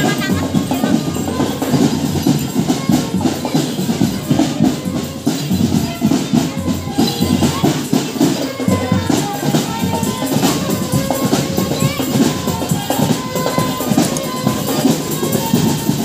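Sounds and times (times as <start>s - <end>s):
marching drum band: 0.0s - 16.0s.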